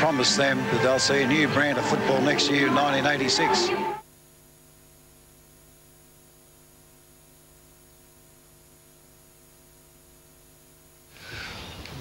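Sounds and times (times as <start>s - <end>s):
faint electrical hum with hiss: 2.3s - 12.0s.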